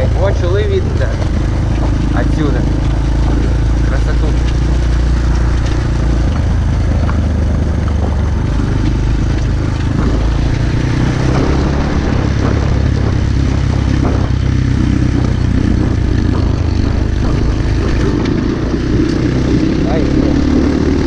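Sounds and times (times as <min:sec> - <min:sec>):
small motorcycle engine running: 0:00.0 - 0:21.0.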